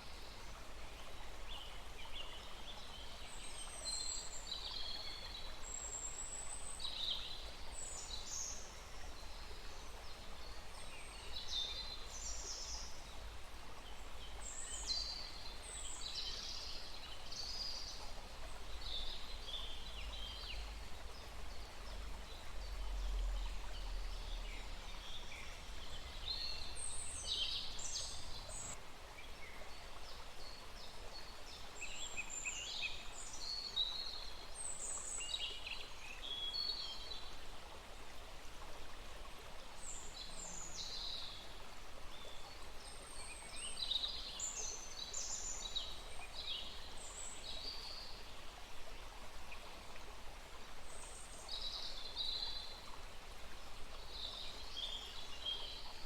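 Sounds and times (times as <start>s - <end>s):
small stream running: 0.0s - 56.0s.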